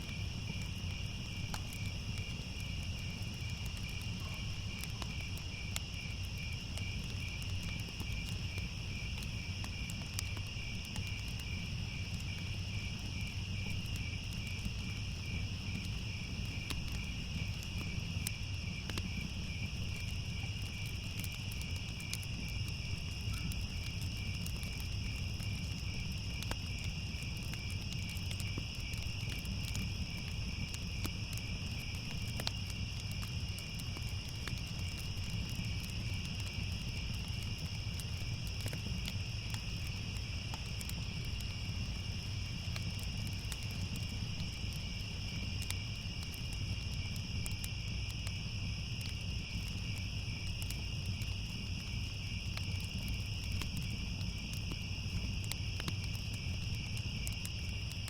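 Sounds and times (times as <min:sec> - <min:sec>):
crickets chirping: 0:00.0 - 0:58.0
faint crackles: 0:00.0 - 0:58.0.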